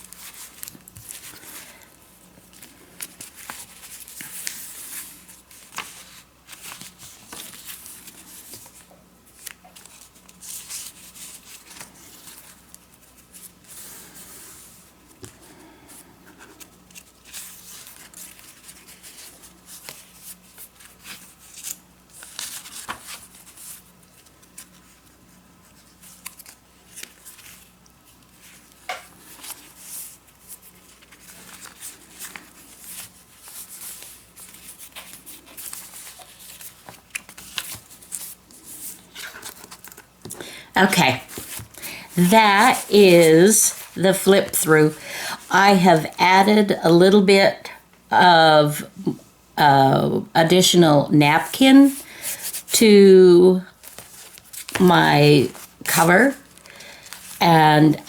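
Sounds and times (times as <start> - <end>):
paper pages rustling: 0.0 - 15.4, 16.3 - 45.1, 53.7 - 58.0.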